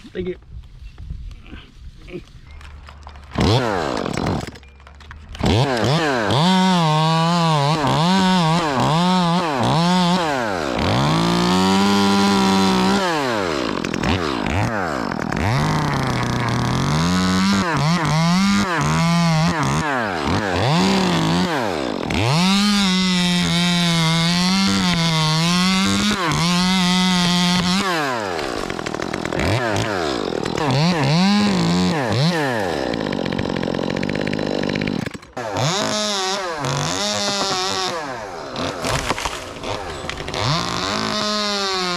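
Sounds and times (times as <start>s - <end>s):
chainsaw cutting at high revs: 3.3s - 4.6s, 5.4s - 41.9s.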